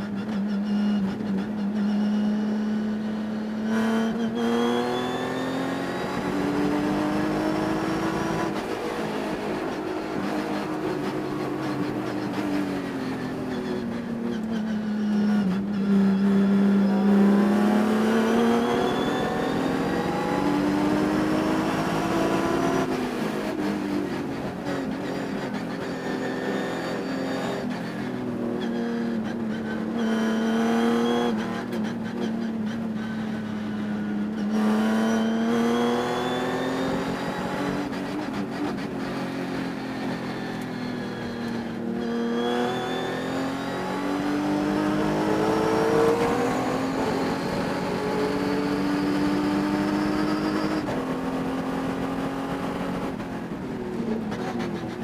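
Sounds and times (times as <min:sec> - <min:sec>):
race car engine revving: 0:00.9 - 0:53.3.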